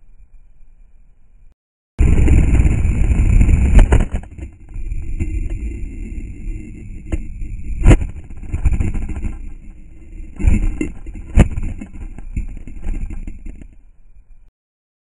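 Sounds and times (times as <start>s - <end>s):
steady high whine: 0.0s - 14.5s
low rumble: 2.0s - 14.5s.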